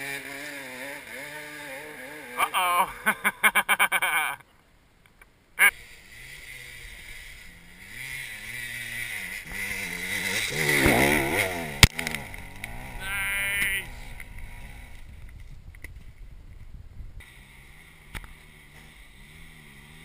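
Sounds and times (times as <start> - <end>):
dirt bike engines revving: 0.0 - 4.3, 5.6 - 16.4, 17.1 - 20.0.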